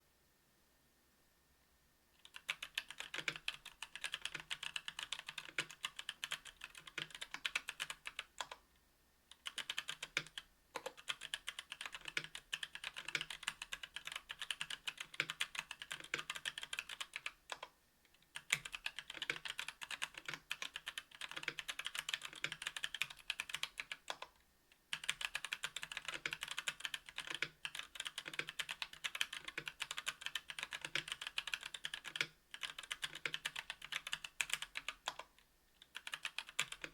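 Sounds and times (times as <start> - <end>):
mechanical keyboard typing: 2.2 - 8.6, 9.3 - 17.7, 18.3 - 24.3, 24.9 - 36.9.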